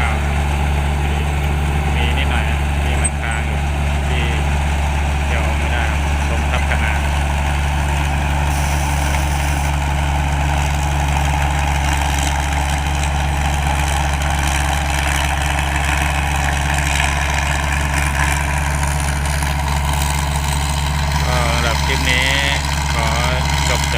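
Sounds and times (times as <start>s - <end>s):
combine harvester engine droning: 0.0s - 23.9s.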